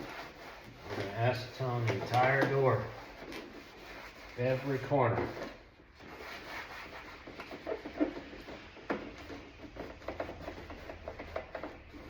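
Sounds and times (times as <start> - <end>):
cloth squeaking on plastic: 0.0 - 12.0.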